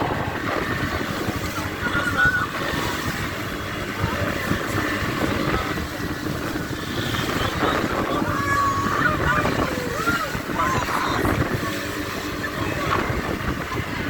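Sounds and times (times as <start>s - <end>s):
boat motor: 0.0s - 14.0s
water noise: 0.0s - 14.0s
wind rushing over microphone: 0.0s - 14.0s.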